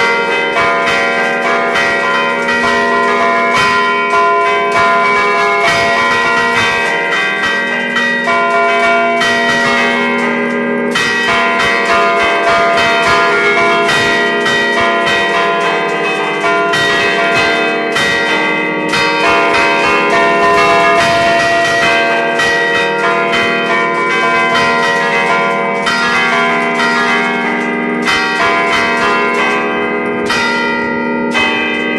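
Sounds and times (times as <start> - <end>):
church bells ringing: 0.0 - 31.9.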